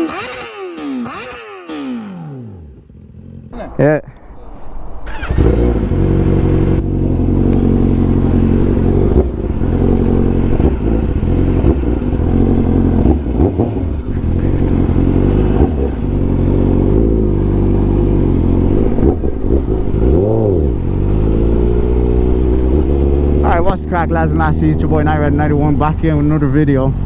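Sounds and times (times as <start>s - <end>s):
motorcycle engine revving: 0.0s - 3.6s, 5.1s - 27.0s.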